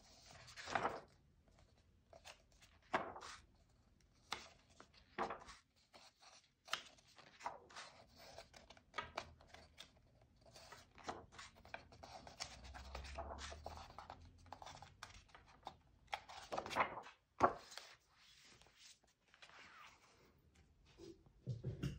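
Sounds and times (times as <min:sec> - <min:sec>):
paper pages turning: 0:00.1 - 0:03.5, 0:04.2 - 0:20.3.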